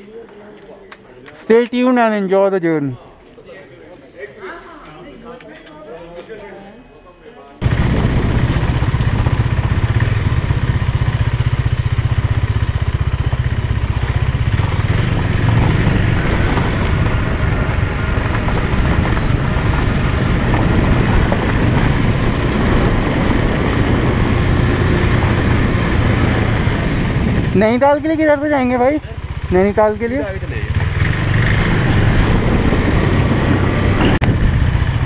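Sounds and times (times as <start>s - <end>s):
motorcycle engine rumbling: 6.7s - 35.0s.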